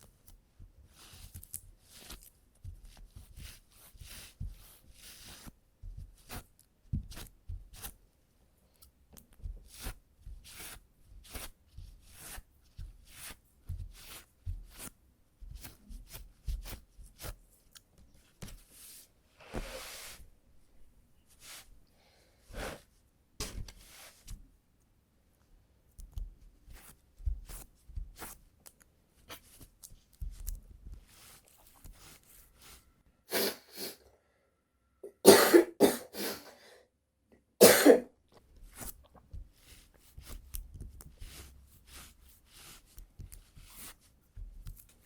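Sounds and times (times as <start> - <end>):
lint roller rustling strokes: 0.0 - 8.0, 9.4 - 20.4, 21.2 - 24.5, 26.4 - 33.9, 38.5 - 45.0.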